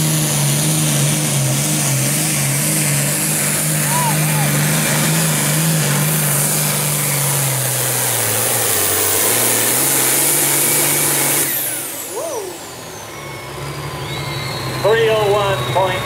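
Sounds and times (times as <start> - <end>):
turbocharged diesel engine: 0.0 - 16.0.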